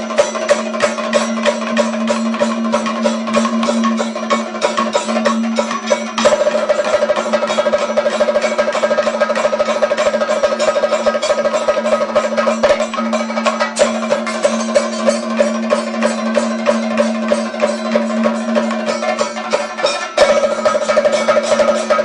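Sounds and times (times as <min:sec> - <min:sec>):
fast dense drumming: 0:00.0 - 0:22.0
steady ringing tone: 0:00.0 - 0:22.0.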